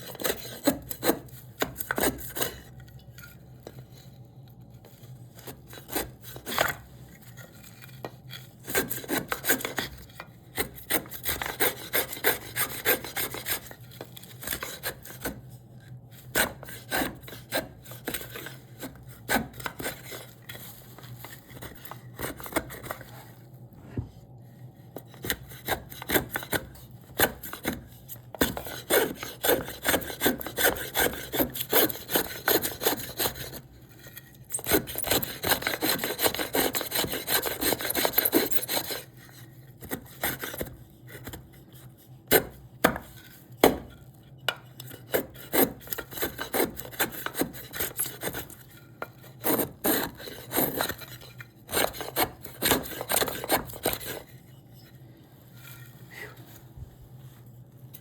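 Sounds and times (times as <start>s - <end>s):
hand tool scraping wood: 0.0s - 2.7s, 5.4s - 15.4s, 16.2s - 23.2s, 25.0s - 41.4s, 42.3s - 54.9s.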